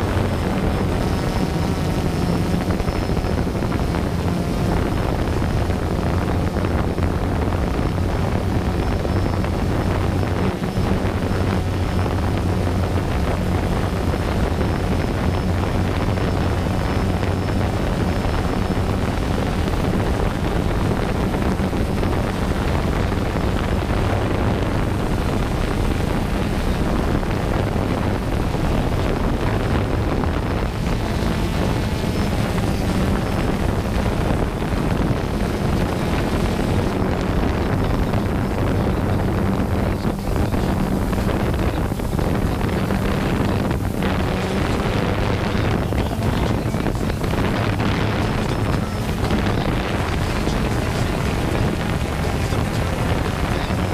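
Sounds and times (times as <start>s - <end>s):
drone propellers droning: 0.0s - 53.9s
wind over microphone: 0.0s - 53.9s.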